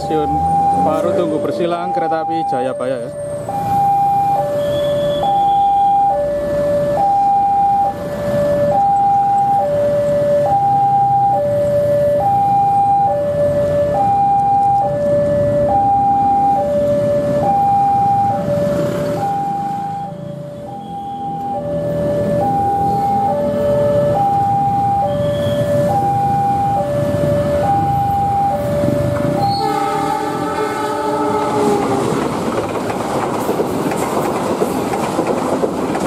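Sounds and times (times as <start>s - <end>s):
two-tone crossing alarm: 0.0s - 32.1s
traffic rumble: 0.0s - 36.0s.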